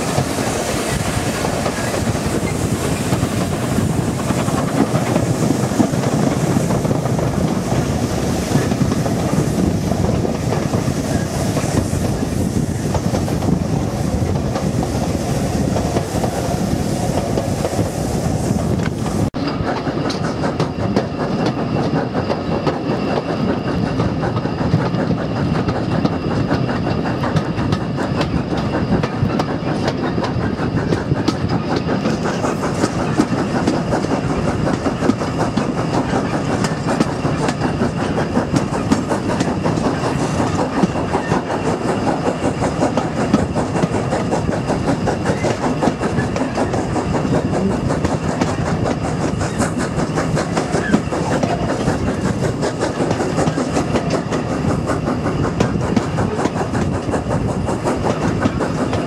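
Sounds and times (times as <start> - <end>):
steam locomotive exhaust: 0.0 - 59.0
train rumble: 0.0 - 59.0.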